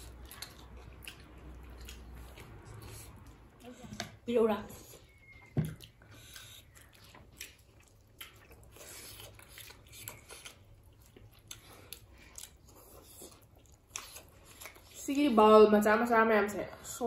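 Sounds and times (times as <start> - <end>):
chewing and mouth smacks: 0.0 - 15.1.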